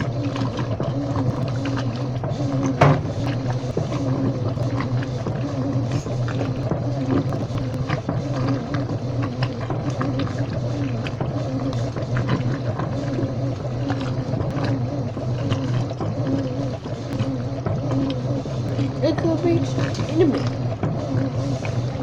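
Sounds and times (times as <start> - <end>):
washing machine motor hum: 0.0 - 22.0.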